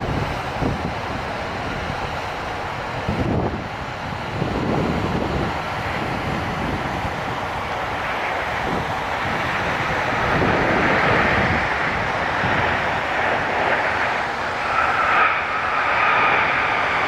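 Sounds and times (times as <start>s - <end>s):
airliner jet noise: 0.0s - 17.0s
wind buffeting microphone: 0.0s - 17.0s.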